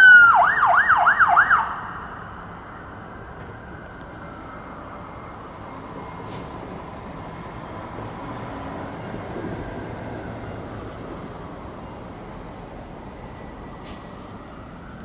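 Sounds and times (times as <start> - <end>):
fire truck engine driving past: 0.0 - 15.0.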